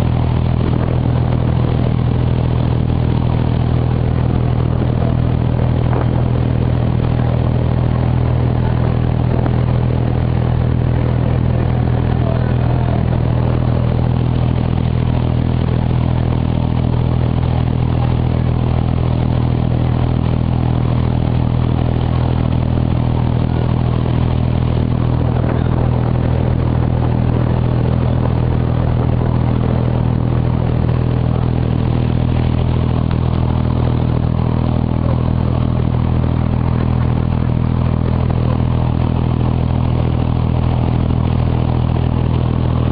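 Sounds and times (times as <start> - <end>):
boat diesel engine running: 0.0 - 42.9.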